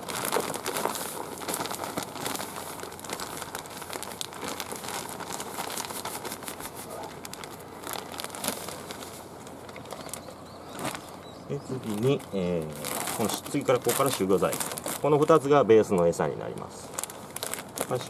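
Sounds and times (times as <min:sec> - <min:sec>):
bag crinkling: 0:00.0 - 0:18.0.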